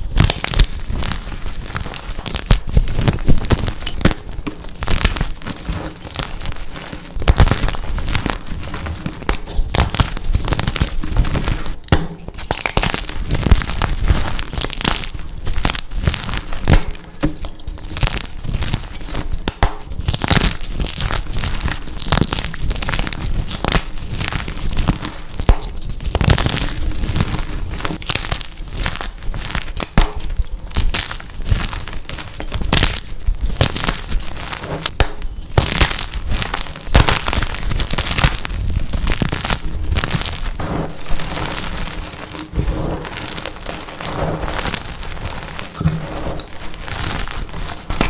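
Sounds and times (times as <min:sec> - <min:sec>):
chalk crunching and cracking: 0:00.0 - 0:48.0.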